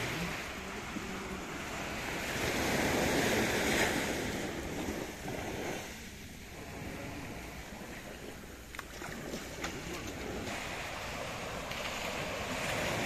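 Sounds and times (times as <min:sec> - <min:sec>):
sea surf washing on beach: 0:00.0 - 0:13.0.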